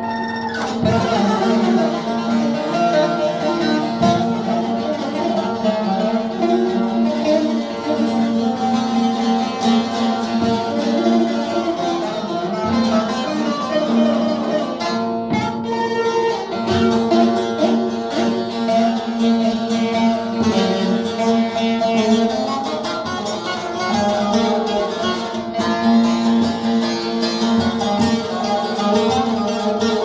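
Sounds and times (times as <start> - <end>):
plucked string instrument music: 0.0 - 30.0.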